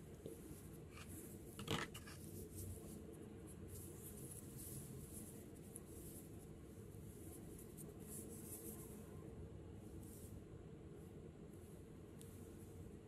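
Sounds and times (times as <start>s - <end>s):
hands rustling yarn: 0.0s - 13.0s.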